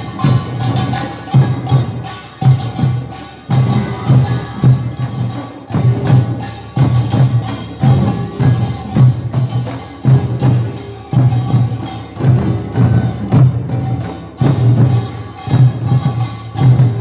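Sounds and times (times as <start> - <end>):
drums beating: 0.0 - 17.0
ringing gongs: 0.0 - 17.0.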